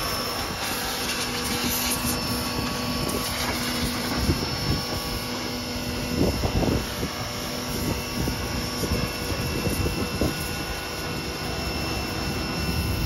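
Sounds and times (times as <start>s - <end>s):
pressure washer motor hum: 0.0s - 13.0s
water jet hissing: 0.0s - 13.0s.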